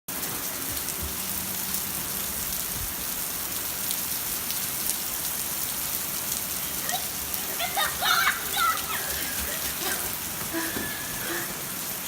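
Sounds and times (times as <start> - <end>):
heavy rain falling: 0.1 - 12.0.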